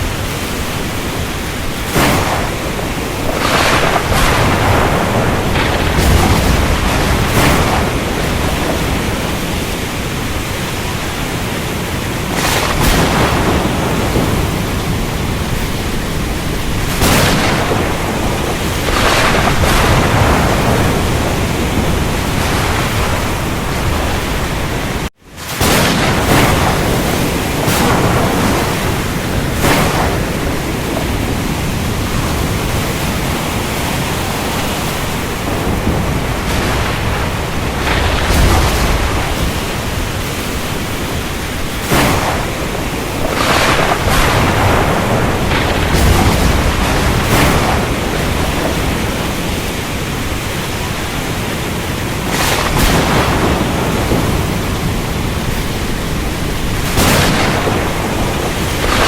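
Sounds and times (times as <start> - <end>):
deep thunder rumbles: 0.0 - 59.0
steady rain: 0.0 - 59.0
surf: 0.0 - 59.0
thunder cracks: 0.0 - 59.0.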